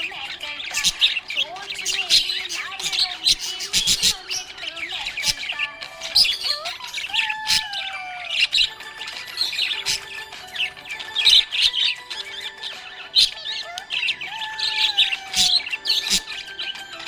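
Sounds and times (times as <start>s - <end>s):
bird squawks: 0.0s - 17.0s
budgerigars chirping and chattering: 0.0s - 17.0s
whistled gliding bird notes: 0.0s - 17.0s.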